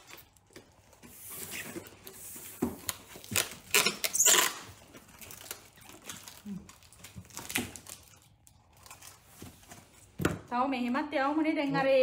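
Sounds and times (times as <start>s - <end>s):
packing tape pulled off roll: 0.0s - 9.7s.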